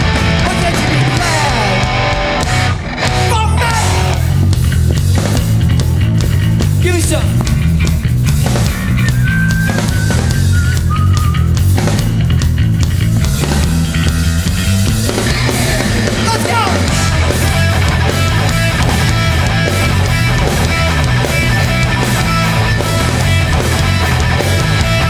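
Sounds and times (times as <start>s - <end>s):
punk band playing live: 0.0s - 25.0s.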